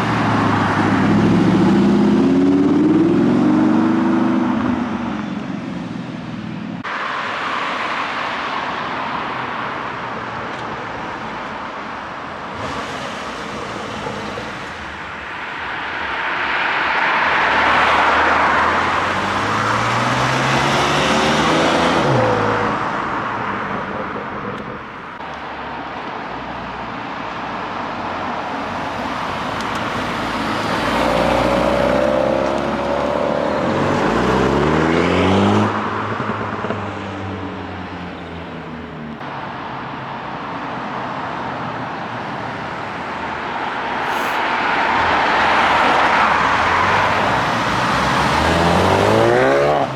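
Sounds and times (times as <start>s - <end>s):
car engines accelerating: 0.0s - 49.9s
road noise: 0.0s - 49.9s.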